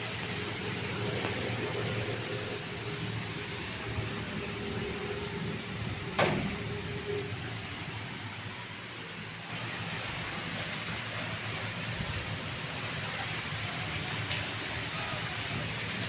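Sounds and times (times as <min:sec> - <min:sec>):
steady rain: 0:00.0 - 0:16.0
wind: 0:00.0 - 0:16.0.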